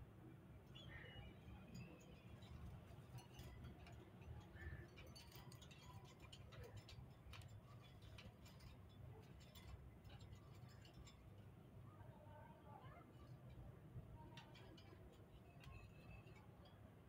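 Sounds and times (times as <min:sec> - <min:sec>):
faint ticks and clicks: 0:01.8 - 0:11.6, 0:13.1 - 0:17.0.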